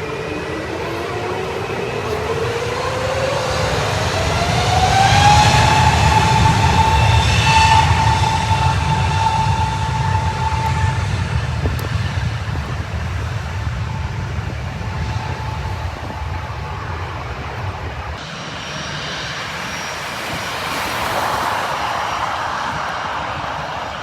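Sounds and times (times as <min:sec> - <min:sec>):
jet airliner engines: 0:00.0 - 0:24.0.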